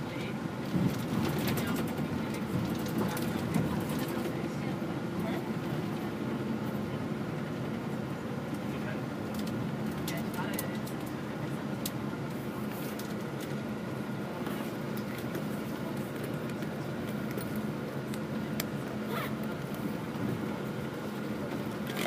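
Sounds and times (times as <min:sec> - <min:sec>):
bus engine and road drone: 0:00.0 - 0:22.0.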